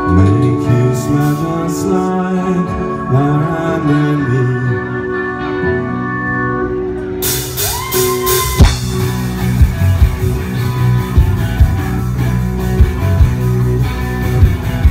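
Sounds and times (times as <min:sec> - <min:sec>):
live rock band playing: 0:00.0 - 0:14.9.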